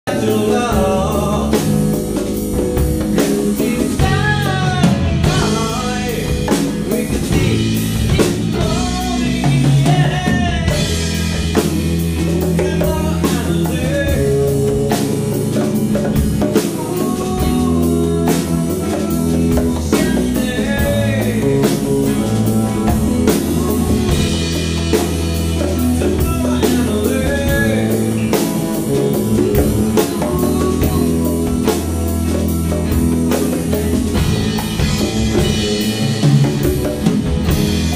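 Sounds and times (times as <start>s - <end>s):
clean electric guitar: 0.0s - 37.9s
congas: 0.0s - 37.9s
drum kit: 0.0s - 37.9s
electric bass: 0.0s - 37.9s.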